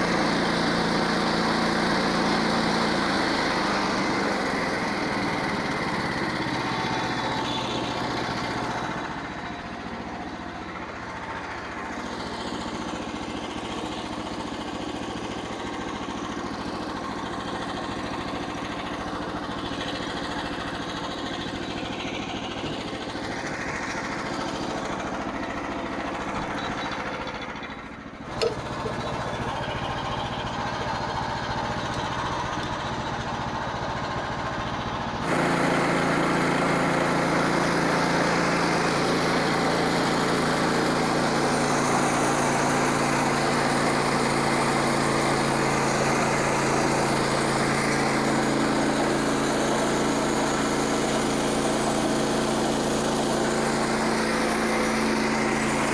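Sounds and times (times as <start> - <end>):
small gasoline engine running: 0.0 - 55.9.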